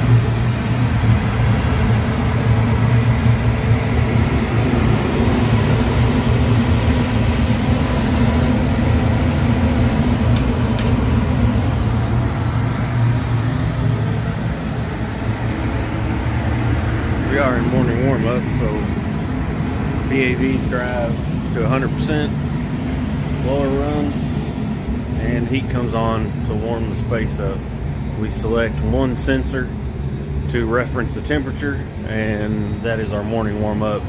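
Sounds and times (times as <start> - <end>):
rooftop hvac unit humming: 0.0 - 34.0.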